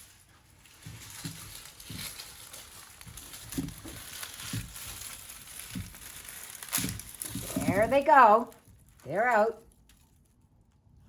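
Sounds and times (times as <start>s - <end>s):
bag and onion skins rustling: 0.0s - 11.0s.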